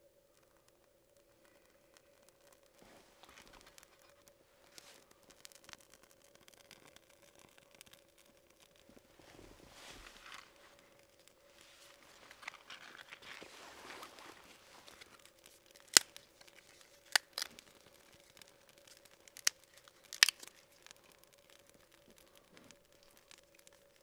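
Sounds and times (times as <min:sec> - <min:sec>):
wood fire crackling: 0:00.0 - 0:24.0
sharp cracks: 0:00.3 - 0:24.0.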